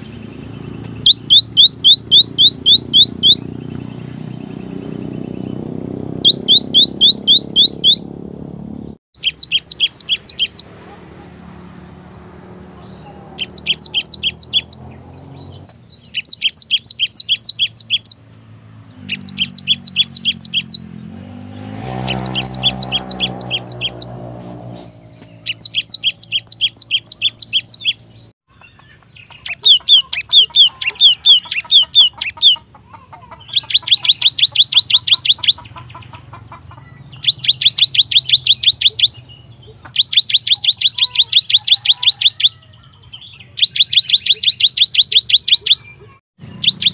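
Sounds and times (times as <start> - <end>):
bird singing whistled notes: 0.0 - 11.7, 12.8 - 18.2, 18.9 - 32.6, 33.5 - 35.7, 36.9 - 46.9.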